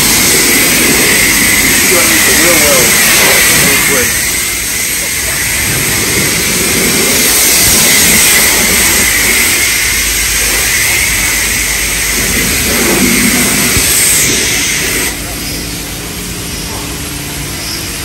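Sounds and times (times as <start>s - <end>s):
high-pressure water spray hissing: 0.0s - 18.0s.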